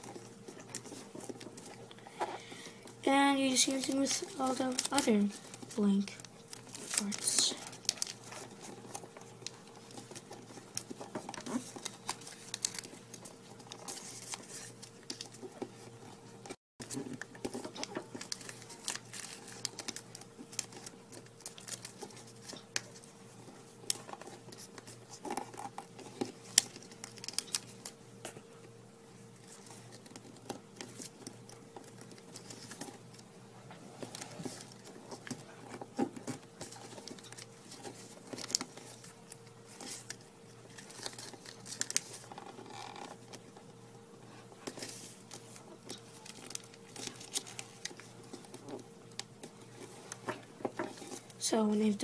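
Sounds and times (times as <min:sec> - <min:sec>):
paper rustling and crinkling: 0:00.0 - 0:28.4, 0:29.2 - 0:52.0.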